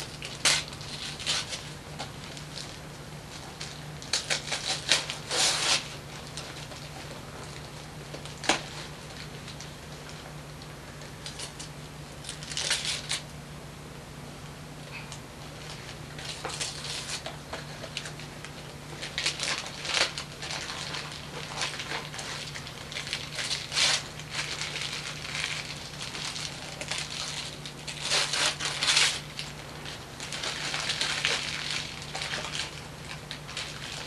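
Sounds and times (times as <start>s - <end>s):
wrapping paper rustling and crumpling: 0.0s - 13.3s, 14.9s - 34.0s
steady low hum: 0.0s - 34.0s.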